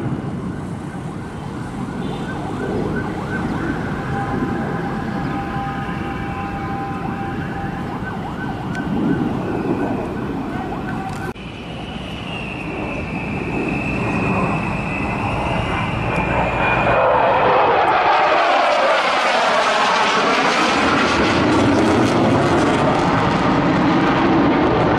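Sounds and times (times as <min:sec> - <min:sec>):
jet engines whining and rumbling: 0:00.0 - 0:24.9.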